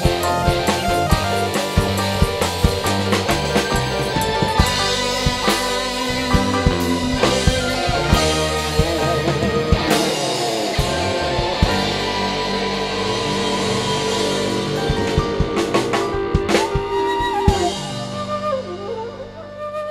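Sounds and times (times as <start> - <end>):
drum hits: 0.0 - 18.2
band playing through pa: 0.0 - 19.9.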